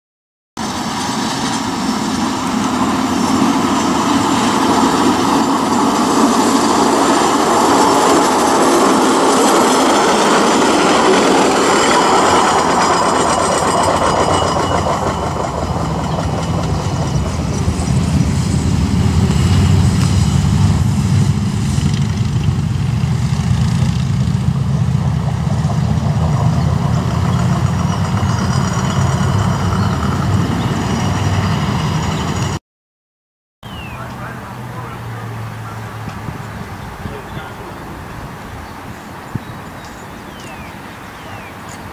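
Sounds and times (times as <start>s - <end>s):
pickup truck passing on rails: 0.6s - 32.6s, 33.7s - 40.0s.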